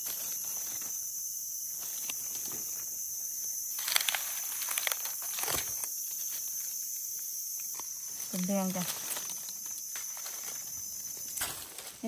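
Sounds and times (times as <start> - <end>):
dry leaves rustling: 0.0 - 2.9, 3.7 - 6.9, 7.7 - 12.0
high-pitched insect chorus: 0.0 - 12.0.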